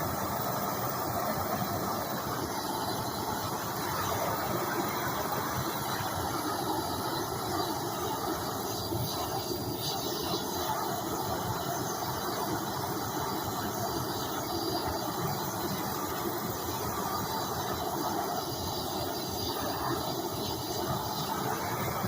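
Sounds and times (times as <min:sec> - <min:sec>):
torch flame hissing: 0:00.0 - 0:22.0.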